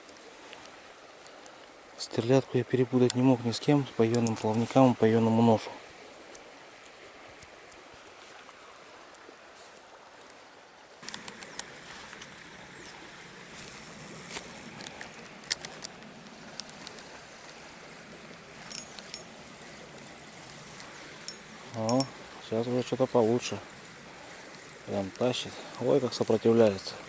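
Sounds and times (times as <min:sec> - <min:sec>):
small river rushing: 0:00.0 - 0:27.0.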